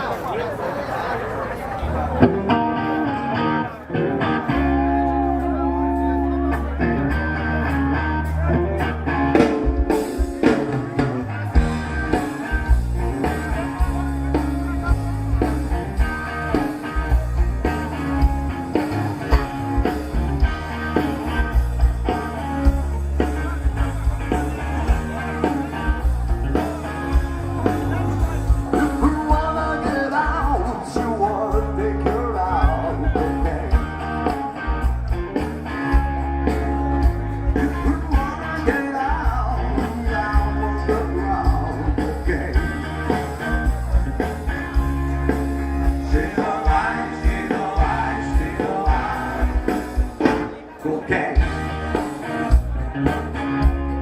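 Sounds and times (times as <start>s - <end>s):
rock and roll song: 2.0s - 54.0s.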